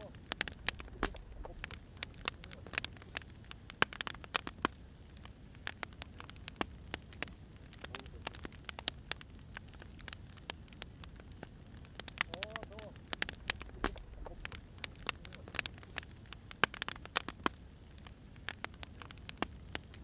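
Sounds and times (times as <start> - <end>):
firewood crackling and popping: 0.0 - 20.0
low fire rumble: 0.0 - 20.0.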